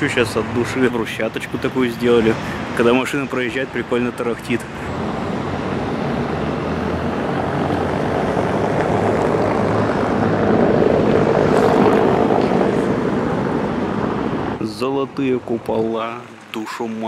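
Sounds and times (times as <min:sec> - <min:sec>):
car tyres rattling over paving: 0:00.0 - 0:17.0.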